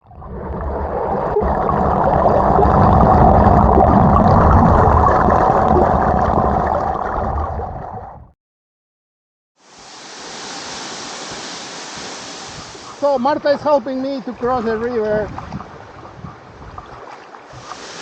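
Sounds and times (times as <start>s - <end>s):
muffled river water rushing: 0.1s - 8.1s, 9.6s - 18.0s.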